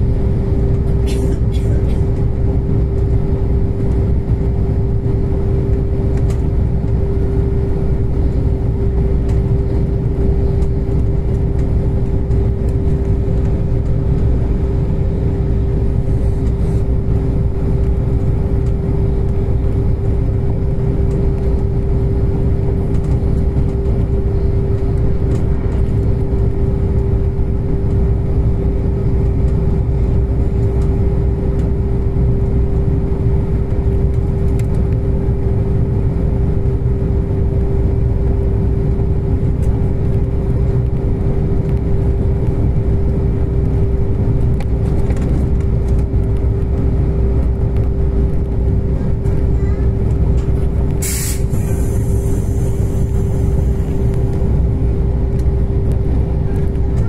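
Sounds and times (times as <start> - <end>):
steady train hum: 0.0 - 57.0
train running gear rumble: 0.0 - 57.0.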